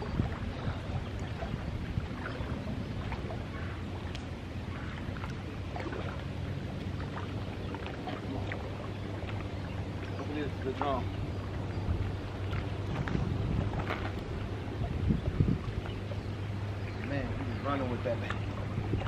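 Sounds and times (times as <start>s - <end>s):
low motor drone: 0.0s - 19.0s.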